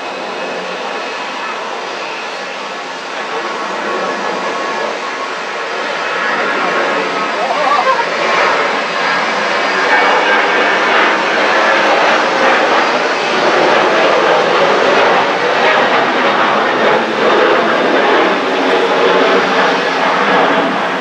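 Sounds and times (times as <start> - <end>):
jet airliner roar overhead: 0.0 - 21.0.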